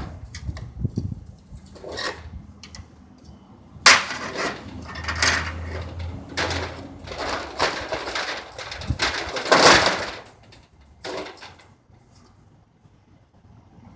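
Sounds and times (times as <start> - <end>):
parts scraping and rattling: 0.0 - 12.3.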